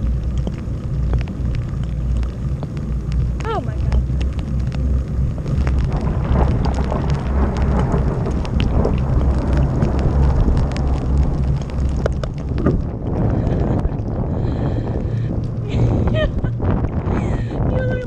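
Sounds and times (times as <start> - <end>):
hiss of rain on wet road: 0.0 - 18.0
raindrops ticking on camera: 0.0 - 18.0
wind buffeting microphone: 0.0 - 18.0.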